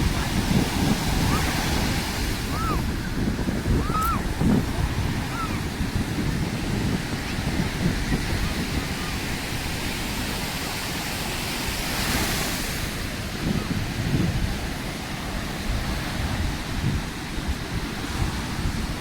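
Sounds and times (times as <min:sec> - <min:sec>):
sea surf washing on shore: 0:00.0 - 0:19.0
wind buffeting microphone: 0:00.0 - 0:19.0.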